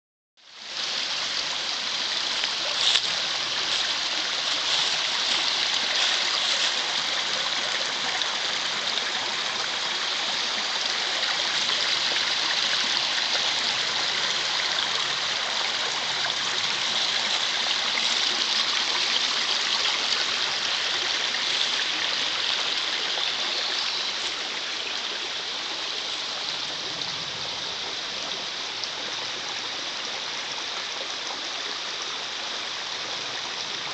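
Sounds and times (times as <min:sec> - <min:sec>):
creek flowing over stones: 0:00.4 - 0:33.9.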